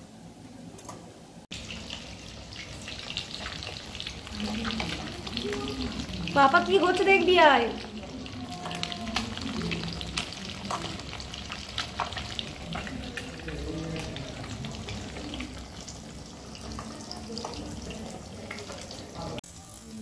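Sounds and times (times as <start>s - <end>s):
oil sizzling and crackling: 1.4s - 20.0s.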